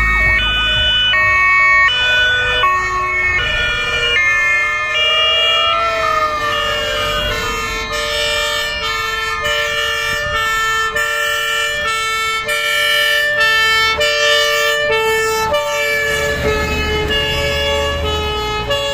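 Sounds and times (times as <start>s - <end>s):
truck engines rumbling: 0.0s - 18.9s
two-tone fire engine sirens: 0.0s - 18.9s
wailing siren: 0.0s - 18.9s.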